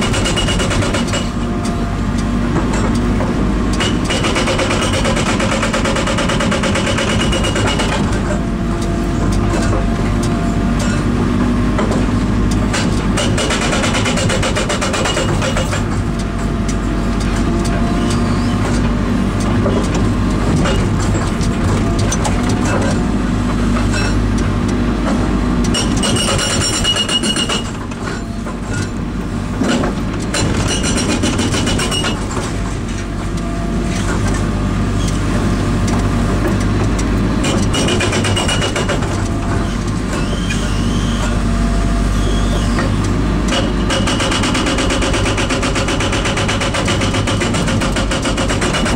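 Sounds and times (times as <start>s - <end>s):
hydraulic breaker hammering: 0.0s - 1.8s, 2.4s - 34.6s, 35.3s - 48.9s
engine running steadily: 0.0s - 48.9s.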